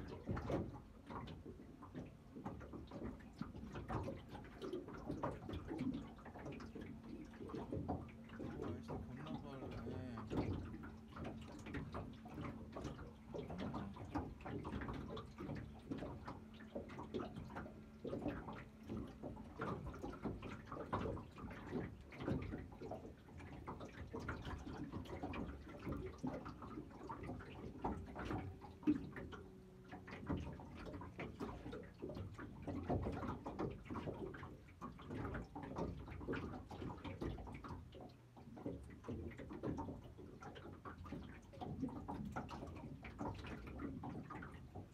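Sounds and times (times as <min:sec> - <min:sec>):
small knocks and splashes: 0:00.0 - 0:44.9
water lapping against boat hull: 0:00.0 - 0:44.9.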